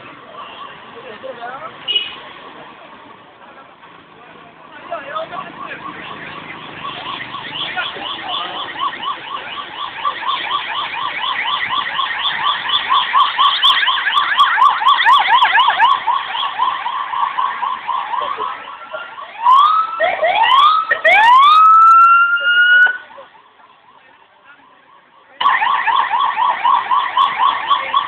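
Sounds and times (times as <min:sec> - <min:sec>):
emergency siren: 0:04.8 - 0:28.0.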